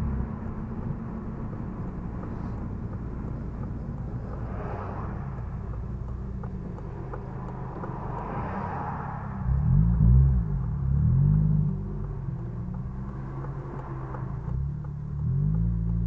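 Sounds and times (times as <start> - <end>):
car engine hum inside cabin: 0.0 - 16.0.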